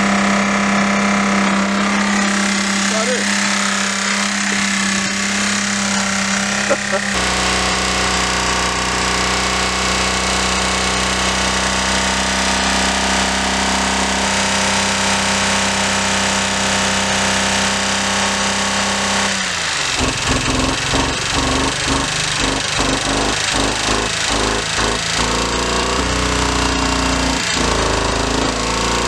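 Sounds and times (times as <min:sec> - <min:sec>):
car engine revving high: 0:00.0 - 0:29.0.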